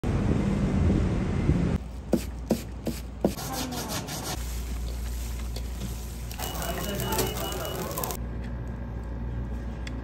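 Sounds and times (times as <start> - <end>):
outdoor street noise rumble: 0.0 - 3.5, 4.4 - 10.0.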